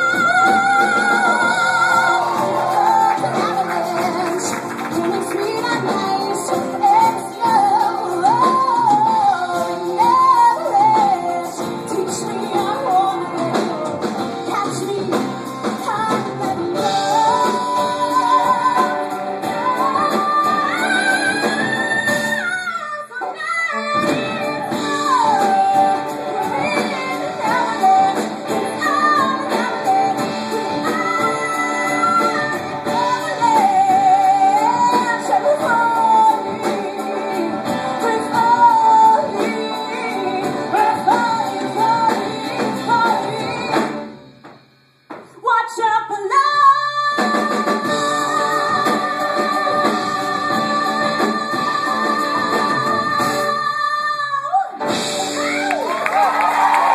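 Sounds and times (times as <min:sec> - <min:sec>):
woman singing ballad: 0:00.0 - 0:44.1, 0:45.4 - 0:56.9
small band with piano: 0:00.0 - 0:45.4, 0:46.9 - 0:56.9.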